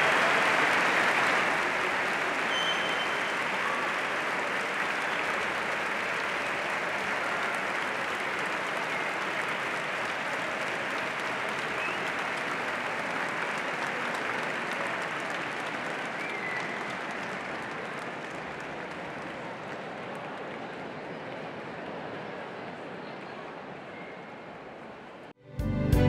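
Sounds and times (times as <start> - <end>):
large crowd applauding: 0.0 - 23.8.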